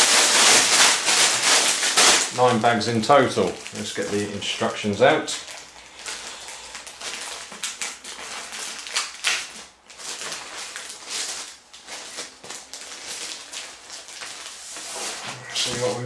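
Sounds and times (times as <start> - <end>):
rustling and crinkling of plastic bags: 0.0 - 16.0.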